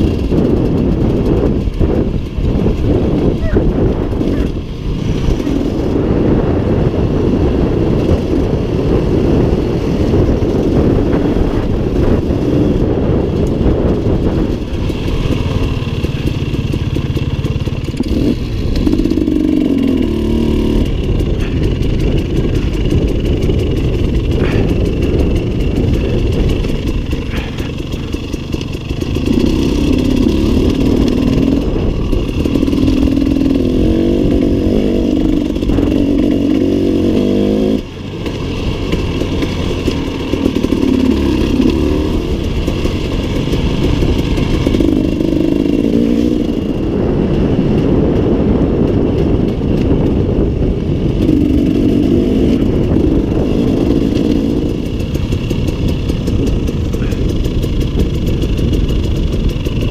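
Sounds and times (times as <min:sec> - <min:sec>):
motorcycle engine revving: 0:00.0 - 0:59.9
wind rushing over microphone: 0:00.0 - 0:59.9.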